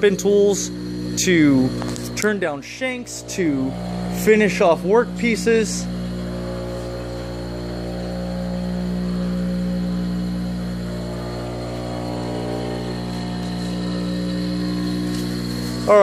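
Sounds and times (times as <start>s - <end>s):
grinder motor humming with whine: 0.0s - 16.0s.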